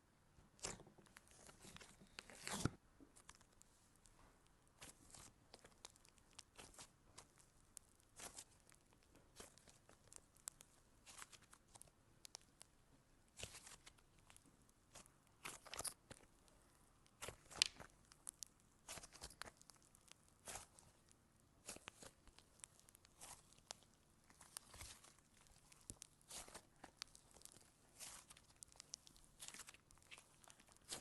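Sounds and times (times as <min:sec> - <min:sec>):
slime crackling and popping: 0:00.6 - 0:16.4, 0:17.0 - 0:31.0.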